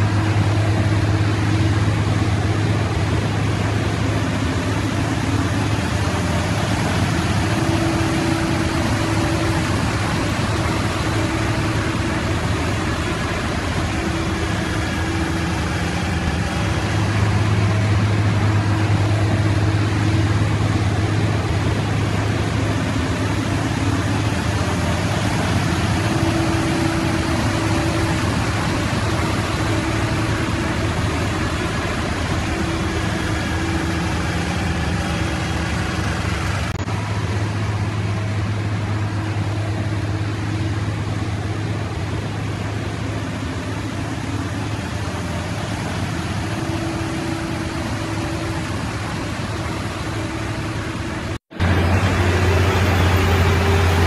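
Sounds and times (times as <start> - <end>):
high engine tone: 0.0 - 54.0.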